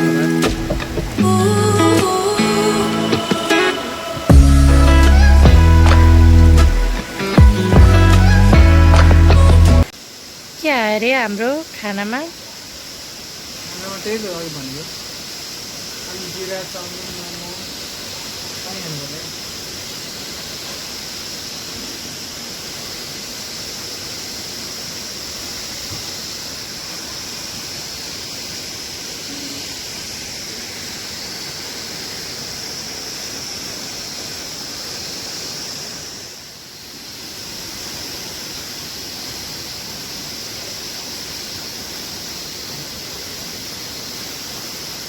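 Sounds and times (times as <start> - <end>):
waterfall roaring: 0.0 - 5.3, 9.9 - 45.0.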